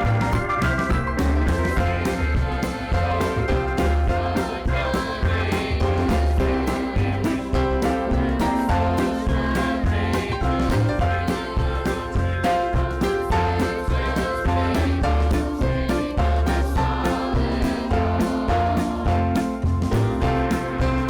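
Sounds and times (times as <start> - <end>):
choir singing gospel song: 0.0 - 21.0
instrumental accompaniment with bass: 0.0 - 21.0.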